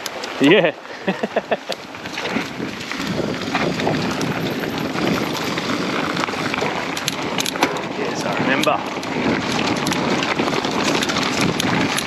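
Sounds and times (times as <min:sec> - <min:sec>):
bike clicks and rattles: 0:00.0 - 0:12.0
tyre and wind noise: 0:00.0 - 0:12.0.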